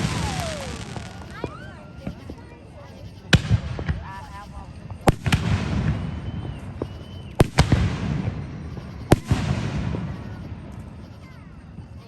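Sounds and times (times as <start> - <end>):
fireworks banging: 0.0 - 12.0
fireworks crackling: 0.0 - 12.0.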